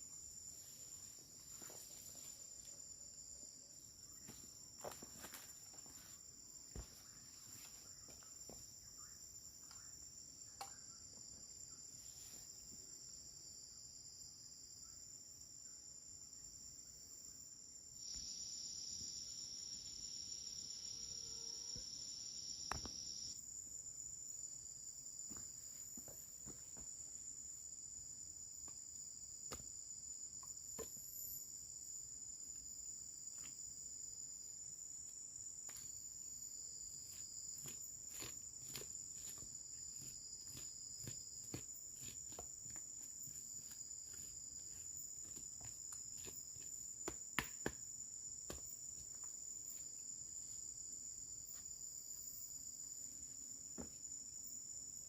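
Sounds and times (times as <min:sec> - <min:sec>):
insects buzzing and chirring: 0:00.0 - 0:55.0.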